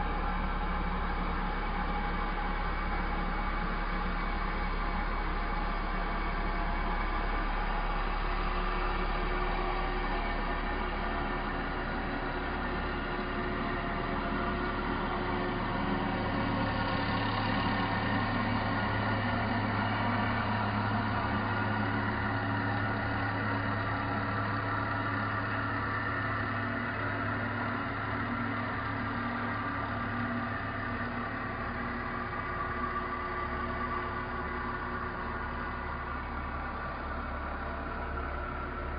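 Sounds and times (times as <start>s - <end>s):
low hum: 0.0s - 38.9s
machine hum with constant tones: 0.0s - 38.9s.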